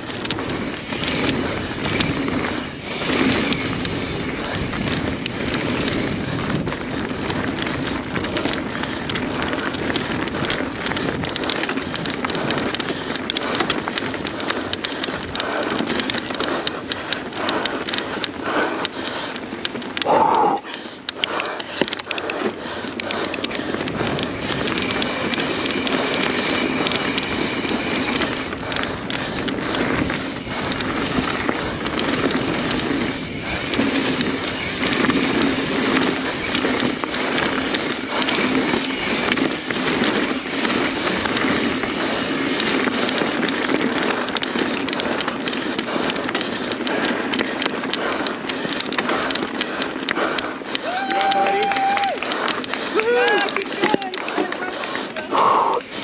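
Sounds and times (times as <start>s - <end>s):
bike chain and frame rattling: 0.0s - 56.0s
bike tyres rolling over dirt: 0.0s - 56.0s.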